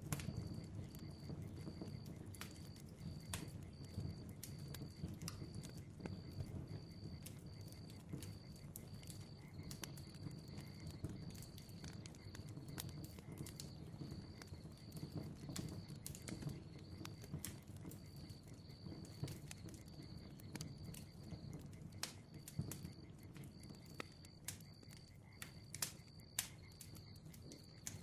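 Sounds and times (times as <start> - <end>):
bonfire flames rumbling: 0.0 - 28.0
fire pops and crackles: 0.0 - 28.0.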